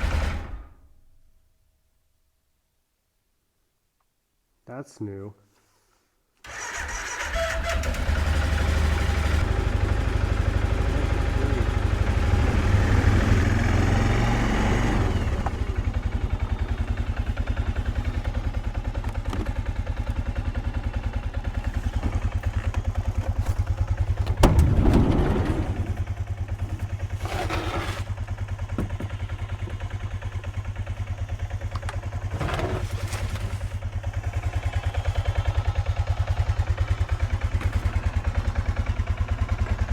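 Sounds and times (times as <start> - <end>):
small engine idling: 6.5 - 39.9.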